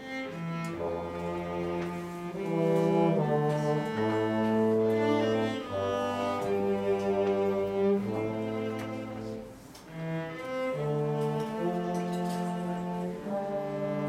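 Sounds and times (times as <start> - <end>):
cello playing low notes: 0.0 - 14.0.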